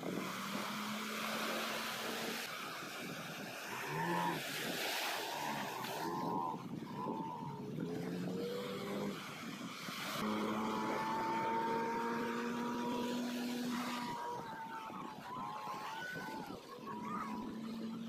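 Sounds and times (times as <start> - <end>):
outboard motor running: 0.0 - 18.0
water wash: 0.0 - 18.0
wind: 0.0 - 18.0.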